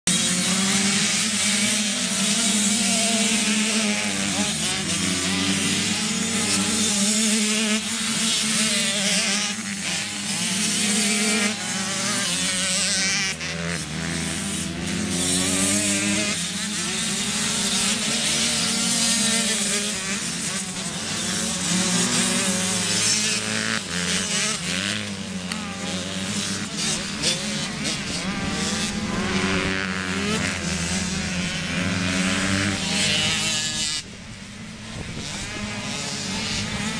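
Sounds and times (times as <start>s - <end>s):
motocross engines revving: 0.0s - 36.9s.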